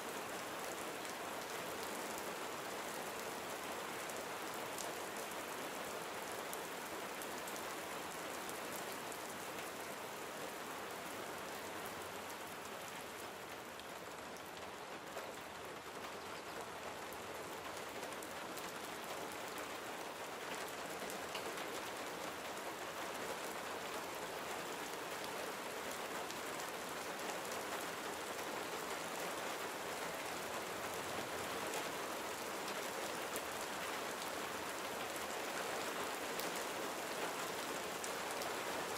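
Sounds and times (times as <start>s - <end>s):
gentle rain falling: 0.0s - 38.9s
raindrops pattering on surfaces: 0.0s - 38.9s.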